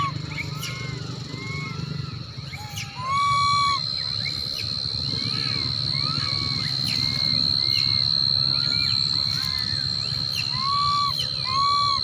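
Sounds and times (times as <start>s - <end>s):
young monkeys crying: 0.0s - 12.0s.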